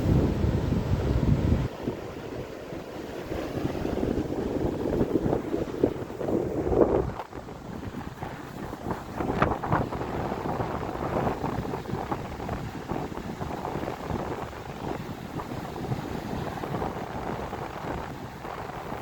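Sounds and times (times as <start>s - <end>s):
rough sea: 0.0s - 19.0s
wind buffeting microphone: 0.0s - 19.0s.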